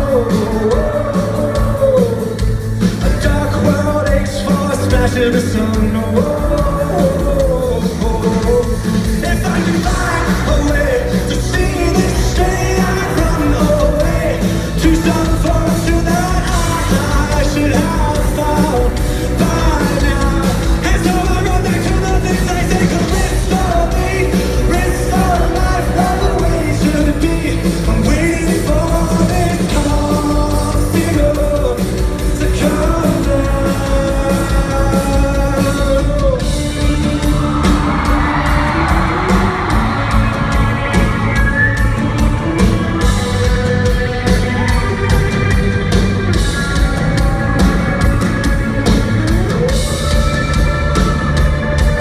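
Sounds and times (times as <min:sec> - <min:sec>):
live rock band: 0:00.0 - 0:52.0
man singing lead vocal: 0:00.0 - 0:52.0
crowd yelling: 0:06.2 - 0:52.0
crowd screaming: 0:06.9 - 0:52.0.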